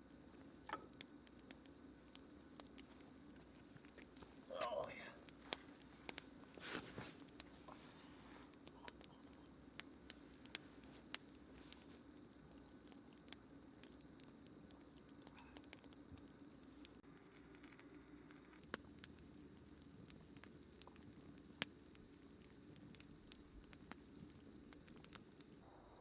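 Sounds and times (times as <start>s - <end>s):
loud fire pops: 0.0s - 25.6s
faint campfire crackling: 0.0s - 26.0s.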